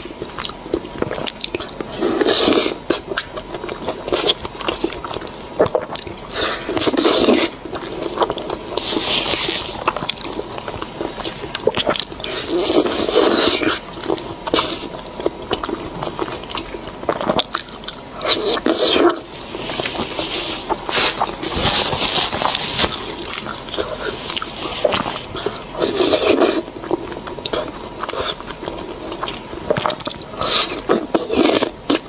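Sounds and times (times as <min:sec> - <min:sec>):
close-miked chewing and biting: 0:00.0 - 0:32.0.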